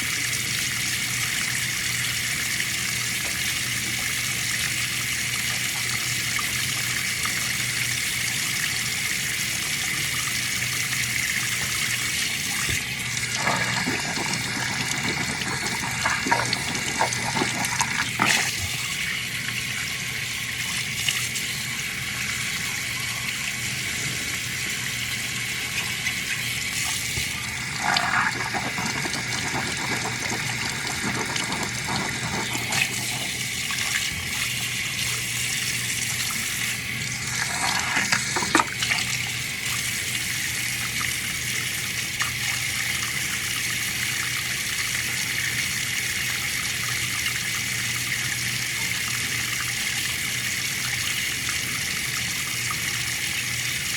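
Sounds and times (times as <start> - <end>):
water running from a tap: 0.0 - 53.9.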